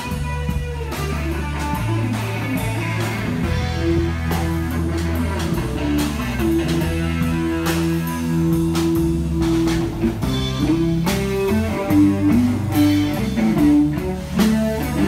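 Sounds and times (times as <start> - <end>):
bass notes: 0.0 - 15.0
guitar rock music: 0.0 - 15.0.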